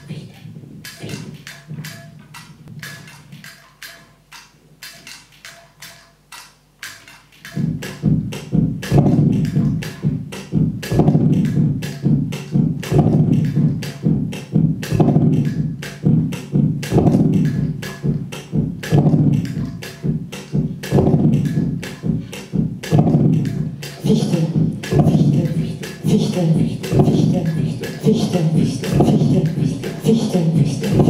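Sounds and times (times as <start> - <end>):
heavy low pulsing groove: 0.0 - 3.4, 7.5 - 31.0
clicking electronic beat: 0.0 - 31.0.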